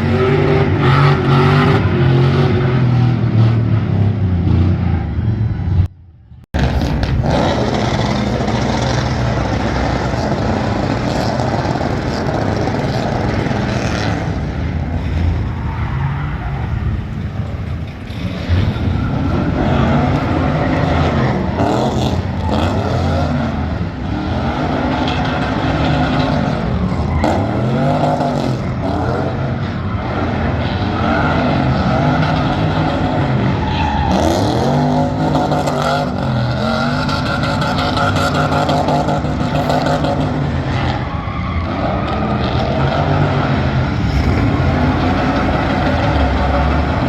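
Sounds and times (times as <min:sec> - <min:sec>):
truck engine revving: 0:00.0 - 0:47.0.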